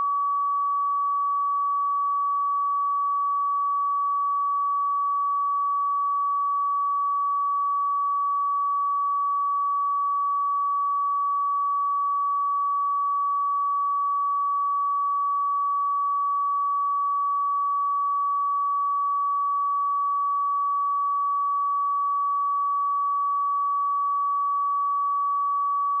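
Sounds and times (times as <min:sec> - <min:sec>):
sine wave test tone: 0:00.0 - 0:26.0.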